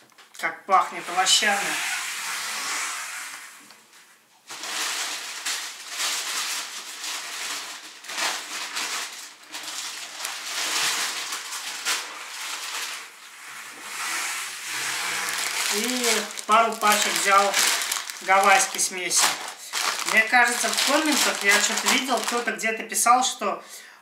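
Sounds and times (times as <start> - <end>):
plastic packs rustling and crinkling: 3.6 - 22.9.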